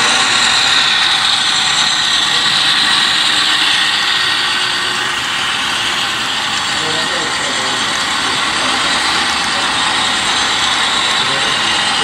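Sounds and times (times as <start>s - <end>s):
model train whirring drone: 0.0s - 12.0s.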